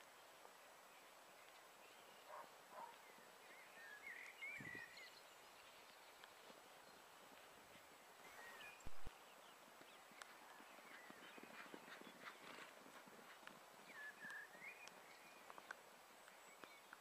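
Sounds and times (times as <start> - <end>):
faint bird chirps: 1.0 - 7.1, 8.0 - 12.7, 13.8 - 17.0.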